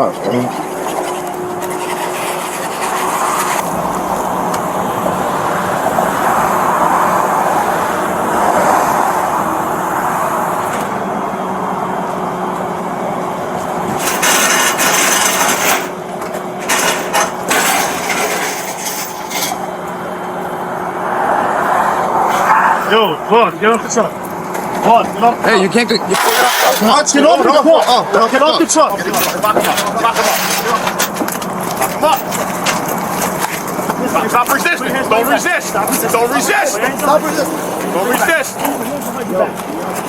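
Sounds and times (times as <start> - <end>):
road traffic noise: 0.0 - 40.0
vehicle engine humming: 0.0 - 40.0.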